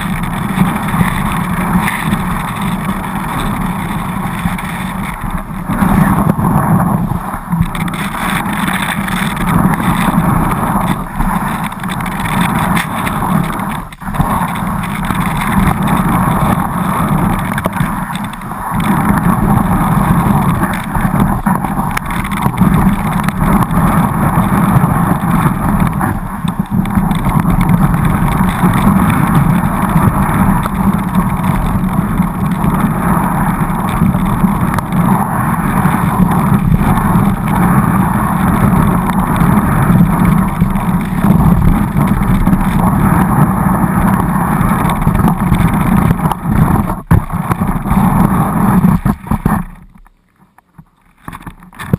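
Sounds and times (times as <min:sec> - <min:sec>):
skis running over snow: 0:00.0 - 0:51.9
wind buffeting camera: 0:00.0 - 0:51.9.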